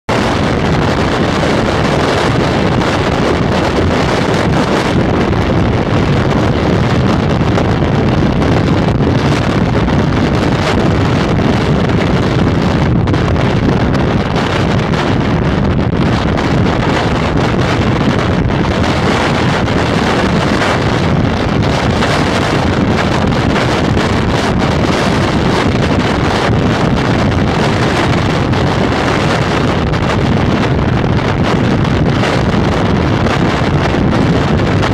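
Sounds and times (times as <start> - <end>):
road noise: 0.1 - 34.9
wind buffeting microphone: 0.1 - 34.9.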